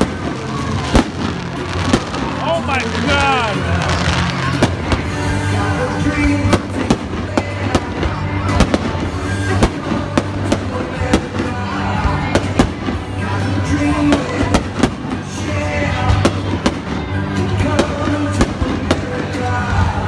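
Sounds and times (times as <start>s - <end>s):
fireworks bursting: 0.0s - 20.0s
music with heavy bass: 0.0s - 20.0s.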